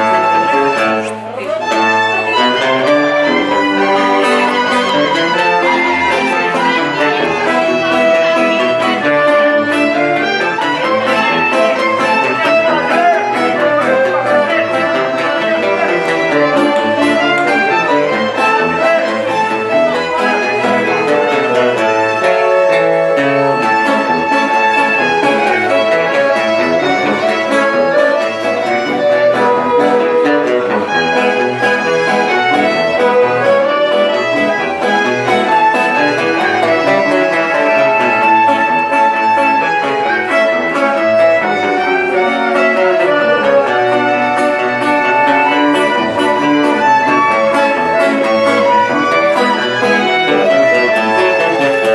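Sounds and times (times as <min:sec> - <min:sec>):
live band playing dance music: 0:00.0 - 0:51.9.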